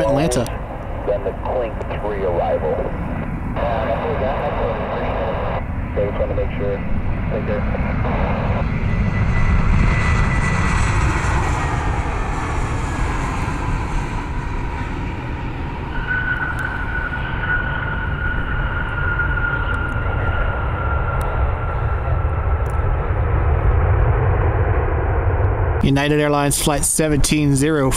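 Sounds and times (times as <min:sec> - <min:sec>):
high steady whine: 0:00.0 - 0:27.9
jet engine roar: 0:00.0 - 0:27.9.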